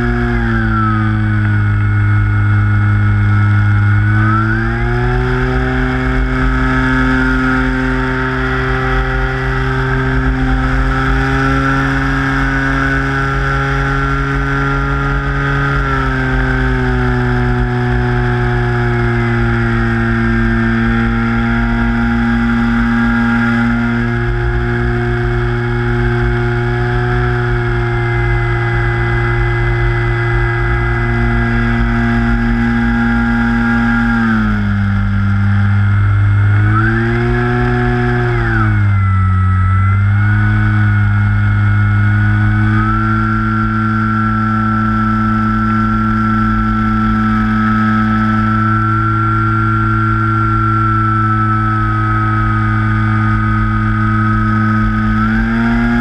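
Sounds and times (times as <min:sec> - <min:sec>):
electric motor and propeller whine: 0:00.0 - 0:56.0.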